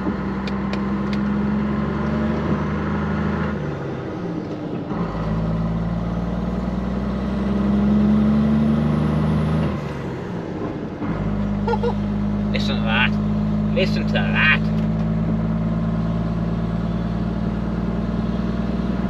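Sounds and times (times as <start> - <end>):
diesel lorry engine pulling uphill: 0.0 - 19.0.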